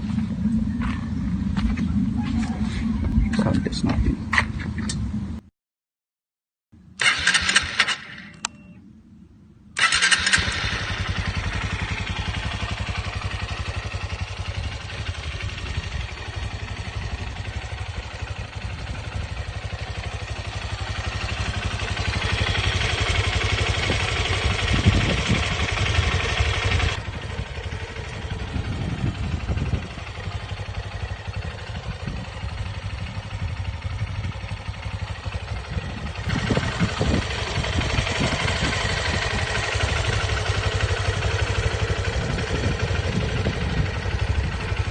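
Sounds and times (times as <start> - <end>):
motorcycle engine running: 0.0 - 5.4, 9.8 - 44.9.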